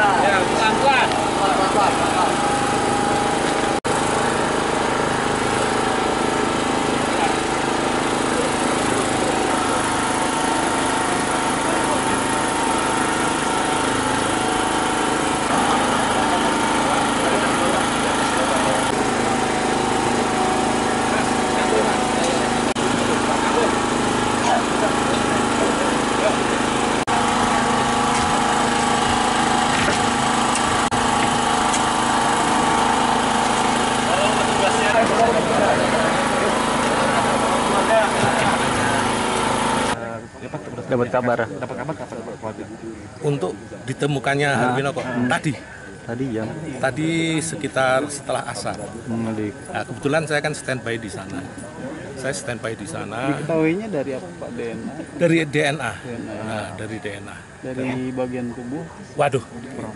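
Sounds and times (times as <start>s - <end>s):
small engine running: 0.0s - 59.9s
voices murmuring: 0.0s - 59.9s.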